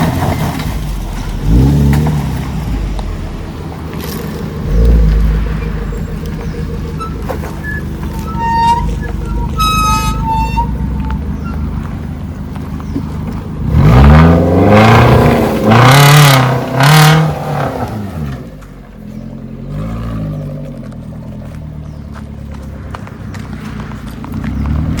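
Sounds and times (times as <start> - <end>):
engine revving: 0.0 - 12.1, 12.8 - 18.6, 19.6 - 21.6, 22.6 - 25.0.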